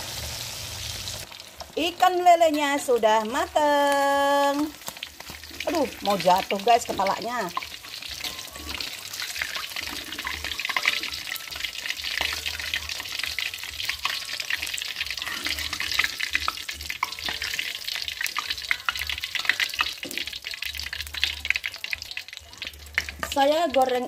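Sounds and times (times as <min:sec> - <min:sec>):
fish deep-frying in hot oil: 0:00.0 - 0:24.0.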